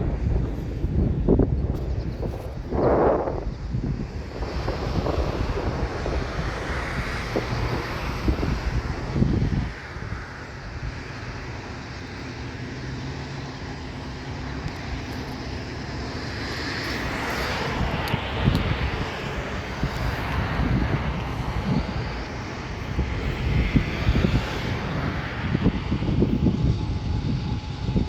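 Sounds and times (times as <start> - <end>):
distant engine drone: 0.0 - 28.0
wind rumble on microphone: 0.0 - 28.0.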